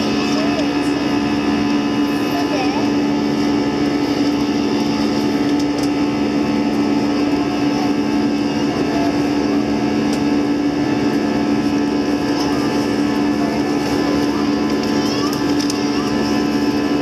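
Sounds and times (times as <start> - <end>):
constant low hum: 0.0 - 17.0
jet engines droning in cabin: 0.0 - 17.0.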